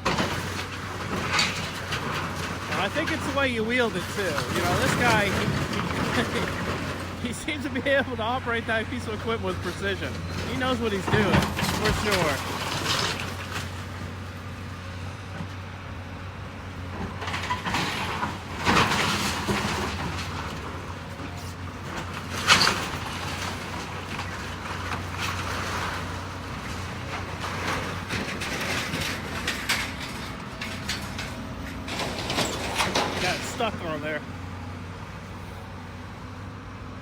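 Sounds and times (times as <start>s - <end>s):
debris crunching and crashing: 0.0s - 15.0s, 16.8s - 35.2s
heavy demolition machine running: 0.0s - 37.0s.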